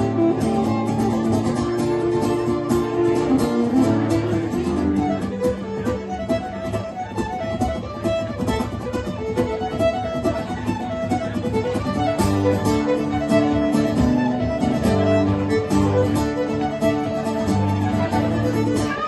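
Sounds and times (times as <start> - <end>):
fiddle melody: 0.0 - 19.0
strummed guitar chords: 0.0 - 19.0.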